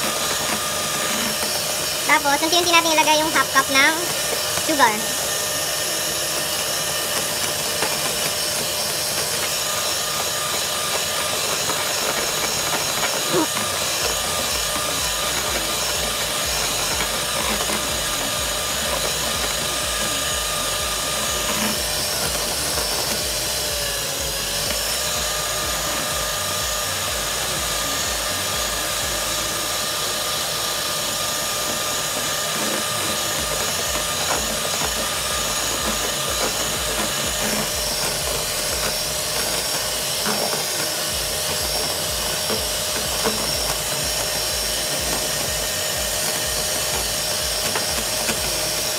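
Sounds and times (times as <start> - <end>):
electric hand mixer whisking: 0.0 - 48.9.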